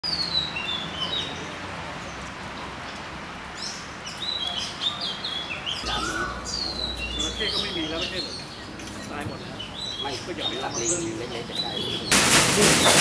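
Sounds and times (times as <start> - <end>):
small birds chirping: 0.0 - 12.2
outdoor background hiss: 0.0 - 13.0.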